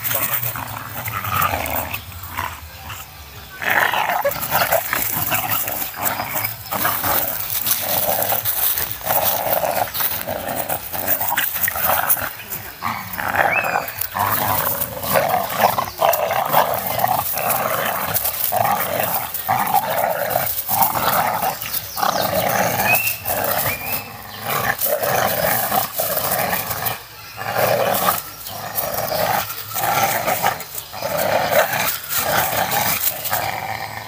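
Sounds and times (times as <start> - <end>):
dogs growling in play: 0.0 - 34.0.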